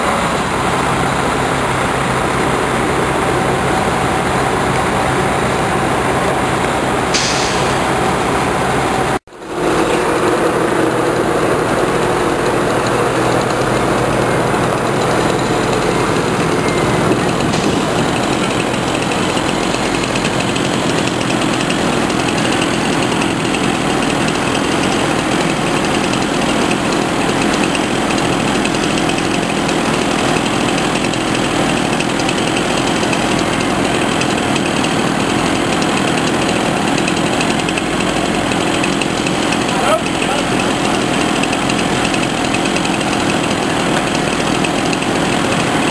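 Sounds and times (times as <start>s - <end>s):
log loader engine running: 0.0s - 45.9s.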